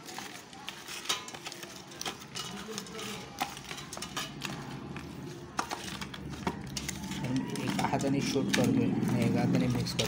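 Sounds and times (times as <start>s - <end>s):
hand mixing chicken in bowl: 0.0s - 10.0s.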